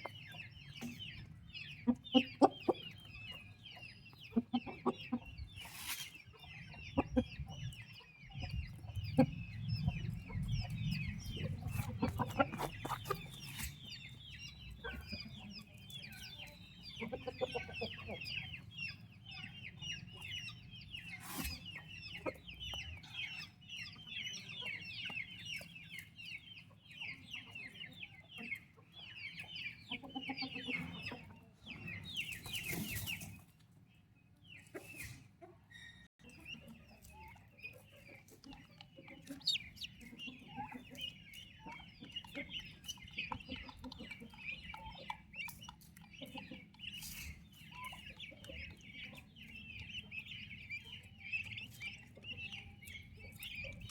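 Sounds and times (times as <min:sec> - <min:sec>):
turkey poults peeping: 0:00.0 - 0:53.9.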